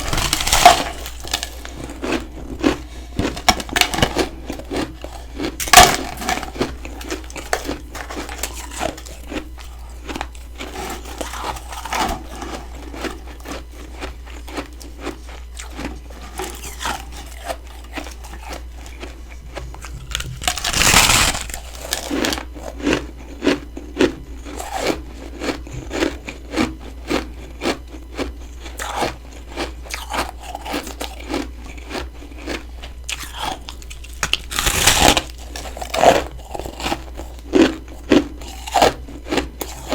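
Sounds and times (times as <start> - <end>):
frost crunching as chewed: 0.0 - 39.9.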